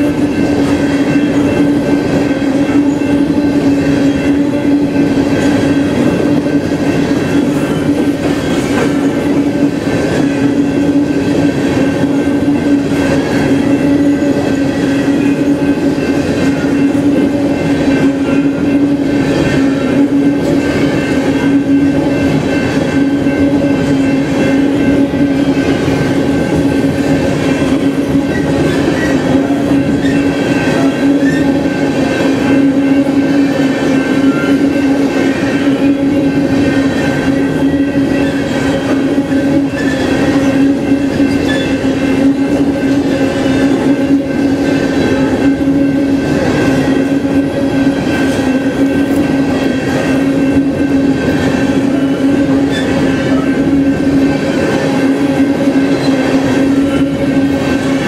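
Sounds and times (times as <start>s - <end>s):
crossing bell ringing: 0.0s - 58.0s
train wheels clacking over rail joints: 0.0s - 58.0s.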